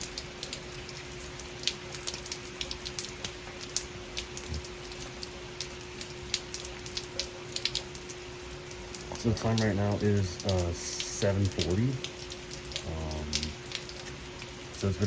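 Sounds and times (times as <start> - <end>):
faint steady hum: 0.0 - 15.0
heavy rain: 0.0 - 15.0.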